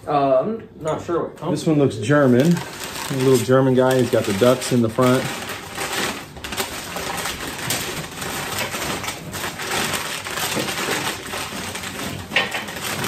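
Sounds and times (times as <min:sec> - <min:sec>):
packing paper crinkling: 0:02.0 - 0:13.0.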